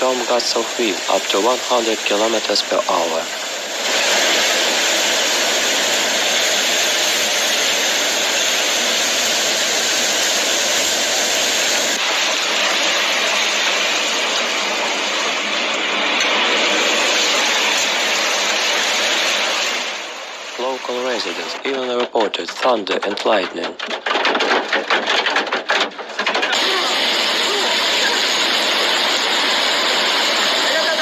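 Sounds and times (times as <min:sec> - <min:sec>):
heavy rain and hail: 0:00.0 - 0:31.0.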